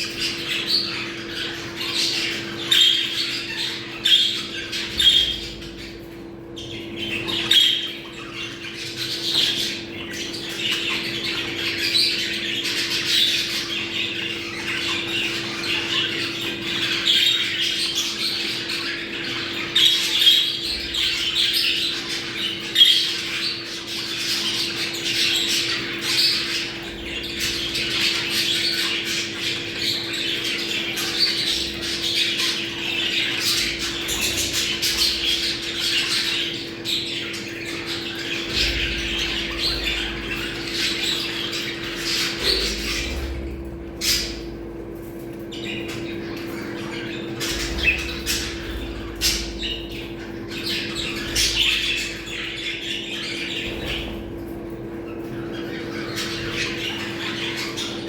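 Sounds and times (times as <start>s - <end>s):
budgerigars chattering and squawking: 0.0s - 58.0s.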